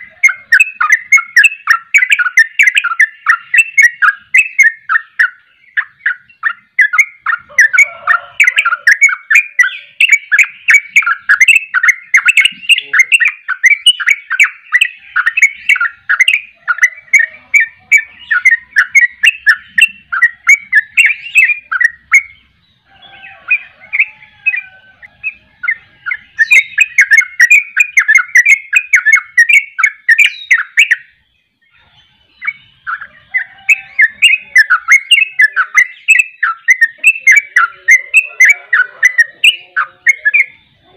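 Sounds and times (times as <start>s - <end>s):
bird singing bubbly chirping runs: 0.0s - 40.9s.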